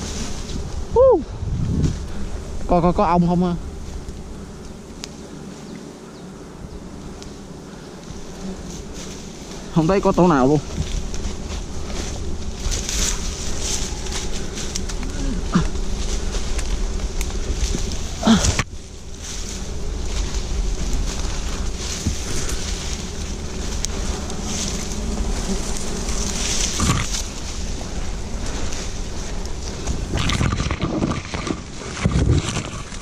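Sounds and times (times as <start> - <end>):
leaves and branches rustling: 0.0 - 33.0.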